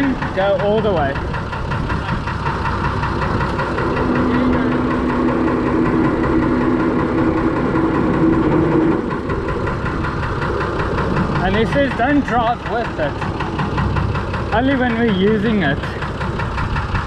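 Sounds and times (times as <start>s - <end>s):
diesel engine idling: 0.0s - 17.0s
steady whine: 0.0s - 17.0s.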